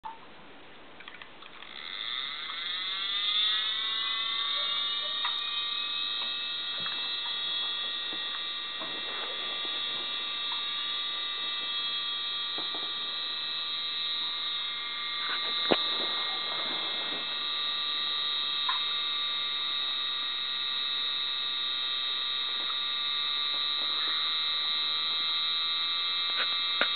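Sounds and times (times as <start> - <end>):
fan siren winding up: 1.5 - 26.9.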